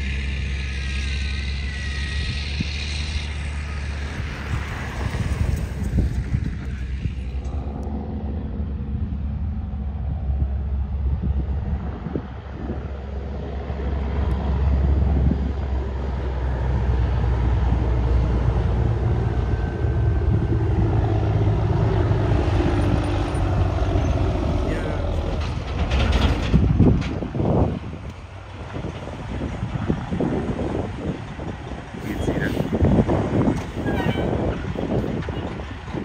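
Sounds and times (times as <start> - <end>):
truck diesel engine rumbling: 0.0 - 36.0.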